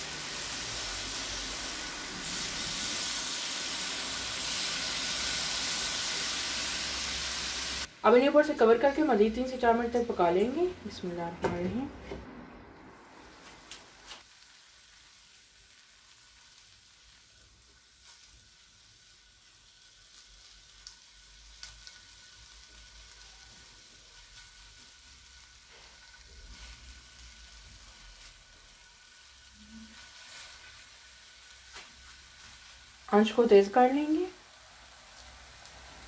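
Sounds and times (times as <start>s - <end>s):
chicken sizzling in oil: 0.0s - 10.7s, 13.1s - 36.0s.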